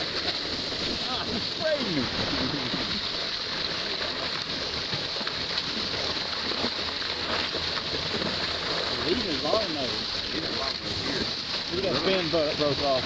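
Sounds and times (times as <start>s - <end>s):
water rushing past boat: 0.0s - 13.0s
wind: 0.0s - 13.0s.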